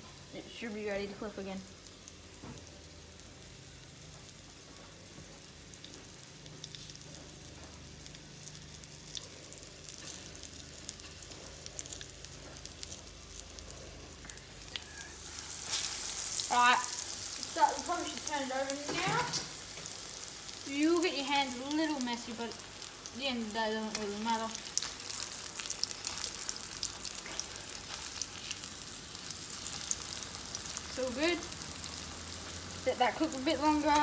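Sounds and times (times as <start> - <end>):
fish frying in oil: 5.4 - 34.0.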